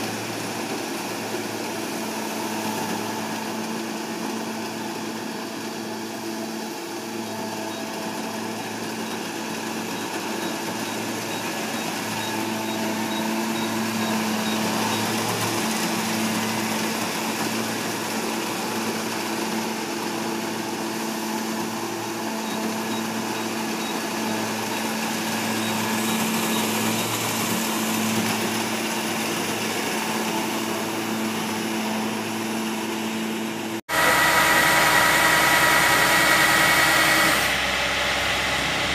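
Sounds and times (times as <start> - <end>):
combine harvester running: 0.0 - 38.9
high machine whine: 0.0 - 38.9.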